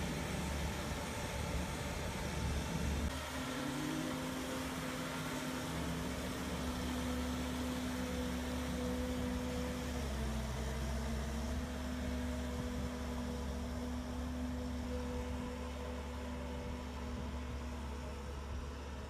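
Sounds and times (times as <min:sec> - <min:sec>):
tracked vehicle engine droning: 0:00.0 - 0:19.0.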